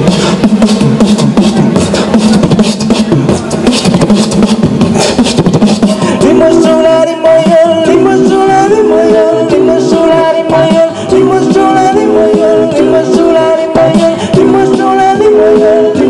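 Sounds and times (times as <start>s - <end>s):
beatboxing into microphone: 0.0s - 16.0s.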